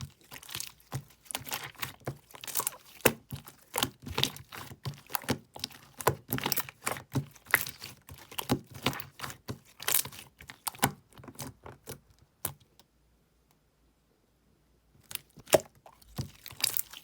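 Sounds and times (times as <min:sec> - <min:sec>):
slime squishing with sticky pops: 0:00.0 - 0:12.8, 0:15.0 - 0:17.0.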